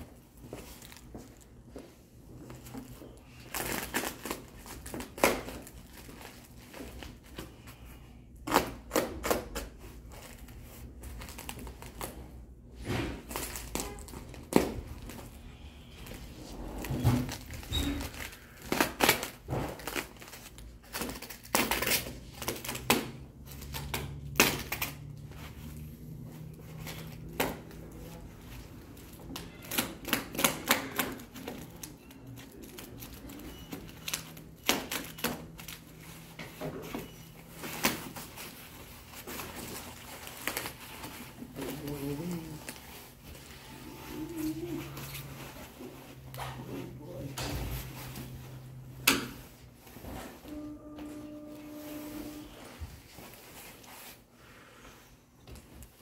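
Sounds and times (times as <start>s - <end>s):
plastic wrapping crinkling: 0.0s - 7.8s, 8.4s - 12.6s, 13.2s - 50.8s.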